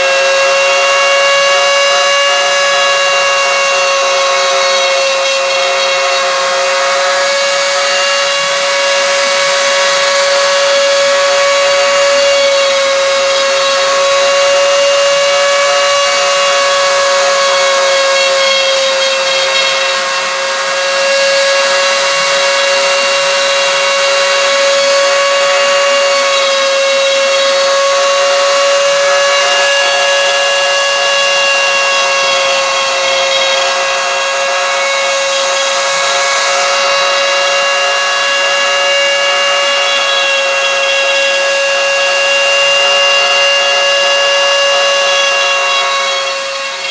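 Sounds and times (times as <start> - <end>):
machine high-pitched whine: 0.0 - 46.9.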